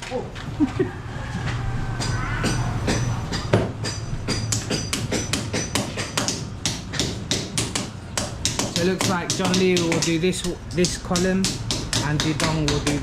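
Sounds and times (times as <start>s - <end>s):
hammer striking metal: 1.8s - 13.0s.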